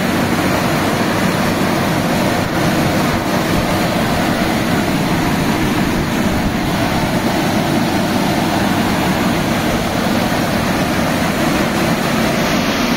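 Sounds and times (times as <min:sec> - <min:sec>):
drying fans blowing air: 0:00.0 - 0:12.9.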